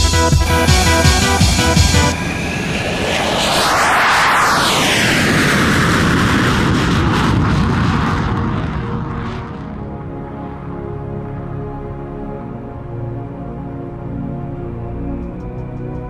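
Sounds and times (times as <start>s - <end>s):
fighter jet passing: 0.2s - 13.2s.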